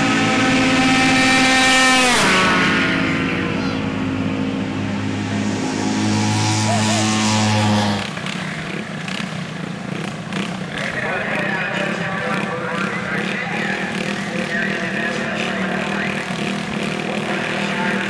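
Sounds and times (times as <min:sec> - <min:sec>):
rough engine noise: 0:00.0 - 0:18.0
scooter engines at full throttle: 0:00.0 - 0:18.0.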